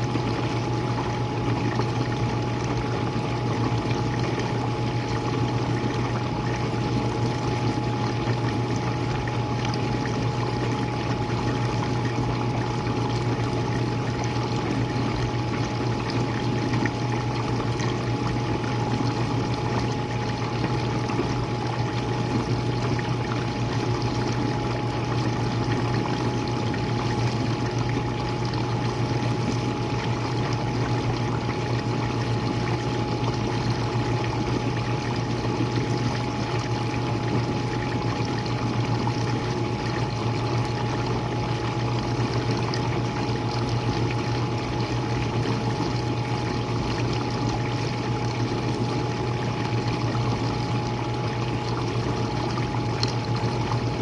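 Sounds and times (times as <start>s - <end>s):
dishwasher pump hum: 0.0s - 54.0s.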